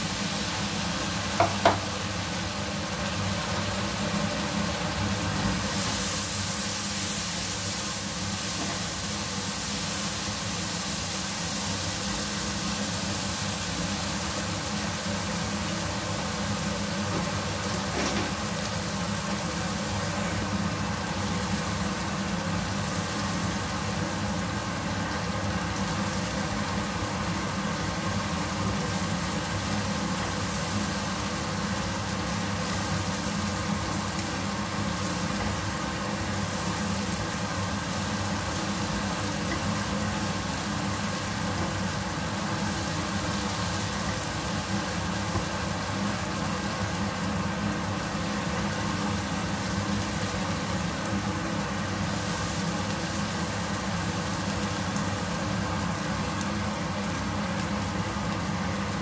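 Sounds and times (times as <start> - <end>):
fan-like hum: 0.0 - 59.0
paste sizzling in oil: 0.0 - 59.0.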